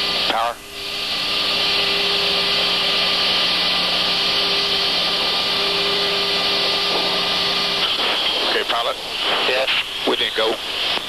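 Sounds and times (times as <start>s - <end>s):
turboprop engine hiss and hum: 0.0s - 11.0s.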